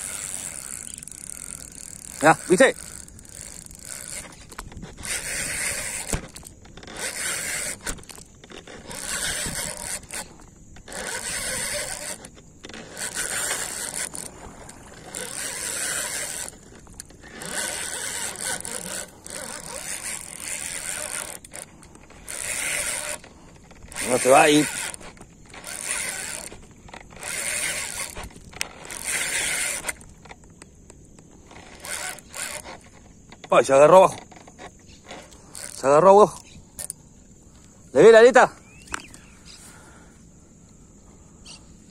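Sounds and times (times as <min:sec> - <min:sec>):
fishing reel whirring: 0:00.0 - 0:37.1.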